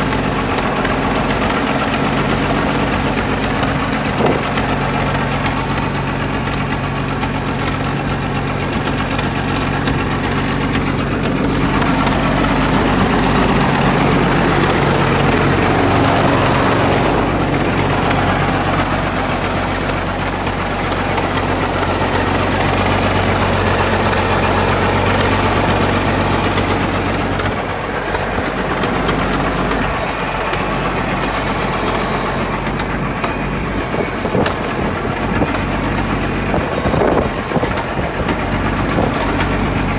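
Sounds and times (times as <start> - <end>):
crawler tractor engine idling: 0.0 - 39.9.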